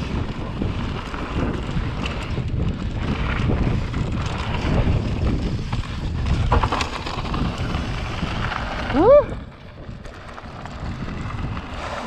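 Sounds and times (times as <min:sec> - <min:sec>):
bike rattling: 0:00.0 - 0:12.0
tyres rumbling on dirt: 0:00.0 - 0:12.0
wind rushing over microphone: 0:00.0 - 0:12.0.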